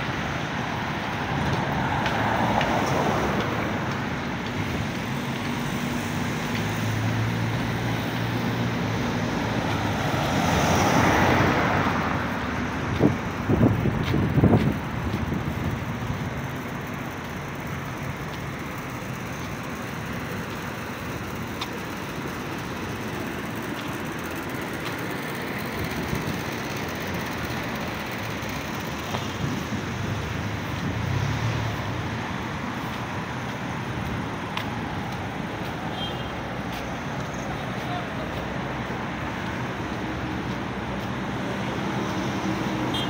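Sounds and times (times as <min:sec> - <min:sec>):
traffic hum: 0:00.0 - 0:43.0.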